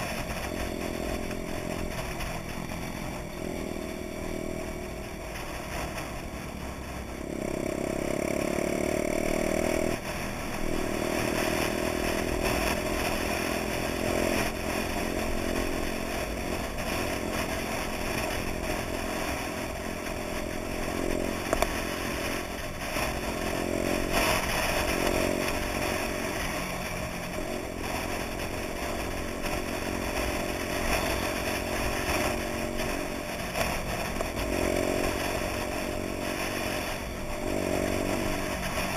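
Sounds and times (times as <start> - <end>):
minibike engine running: 0.0 - 38.9
wind and road noise: 0.0 - 38.9.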